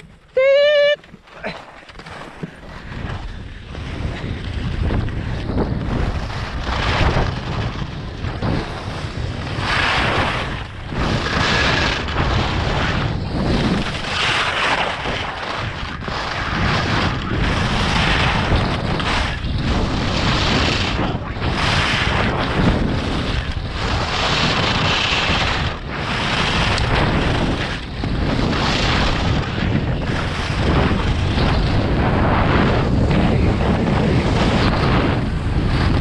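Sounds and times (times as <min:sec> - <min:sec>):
wind buffeting microphone: 0:00.0 - 0:36.0
ski edges scraping on snow: 0:00.1 - 0:36.0.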